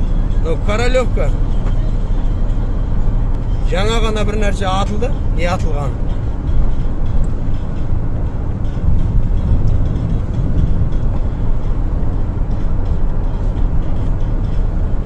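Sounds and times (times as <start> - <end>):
steady low rumbling: 0.0 - 15.0.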